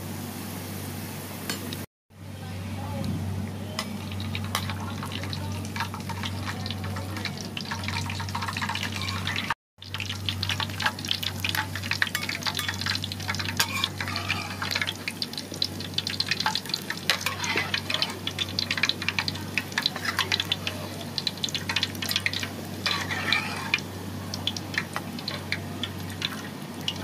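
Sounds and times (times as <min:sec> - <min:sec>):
garlic sizzling in hot oil: 0:03.4 - 0:27.0.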